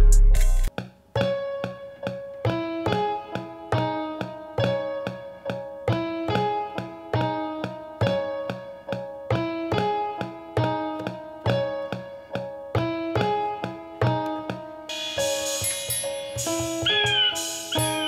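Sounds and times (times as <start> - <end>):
piano melody of single notes: 0.4 - 18.0.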